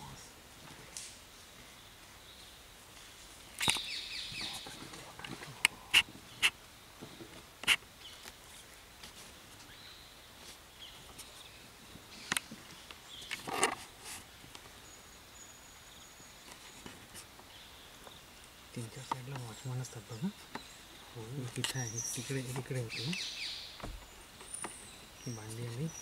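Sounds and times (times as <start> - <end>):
quiet forest background: 0.0 - 26.0.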